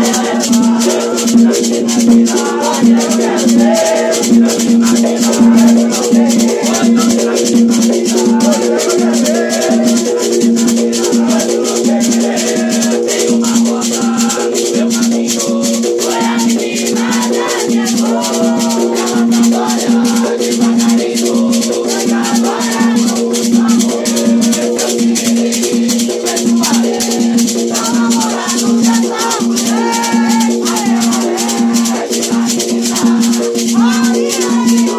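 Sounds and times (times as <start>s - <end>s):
hand drums beating: 0.0s - 34.9s
person singing: 0.0s - 34.9s
rattling shaker: 0.0s - 34.9s.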